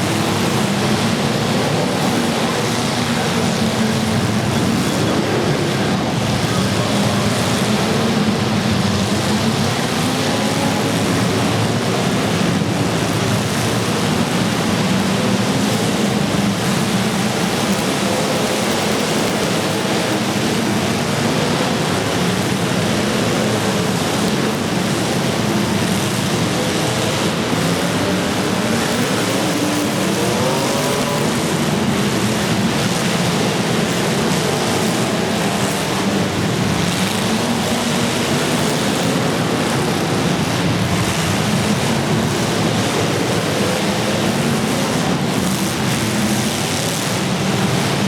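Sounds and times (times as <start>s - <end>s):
car engines revving: 0.0s - 48.0s.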